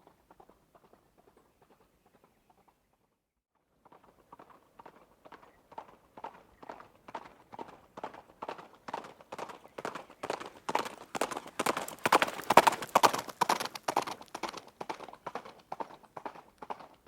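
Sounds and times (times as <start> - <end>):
running horse hoofbeats: 0.0 - 3.1, 3.8 - 17.0.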